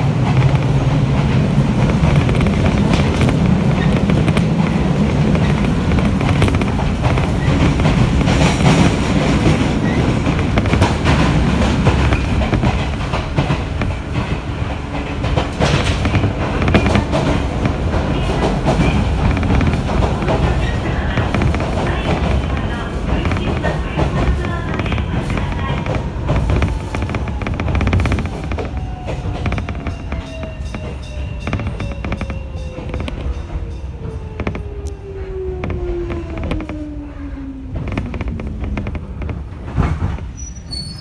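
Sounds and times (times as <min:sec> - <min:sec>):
rail joint clacks: 0:00.0 - 0:41.0
train wheels rumbling on rail: 0:00.0 - 0:41.0.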